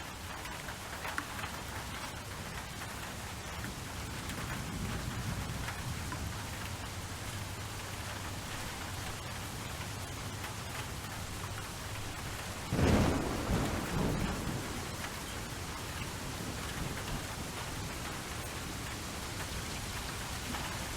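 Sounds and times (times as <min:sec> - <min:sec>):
raindrops ticking: 0:00.0 - 0:20.9
steady rain falling: 0:00.0 - 0:20.9.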